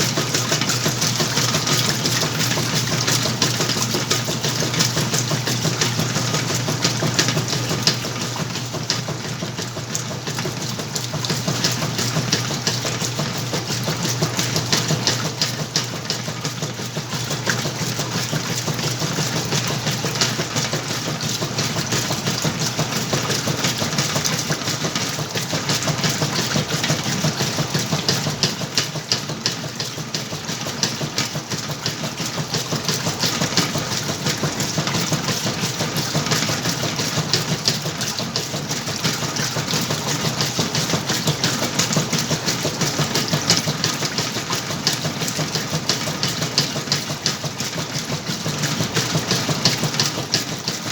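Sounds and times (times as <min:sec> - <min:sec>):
washing machine motor hum: 0:00.0 - 0:50.9
washing machine rattling: 0:00.0 - 0:50.9.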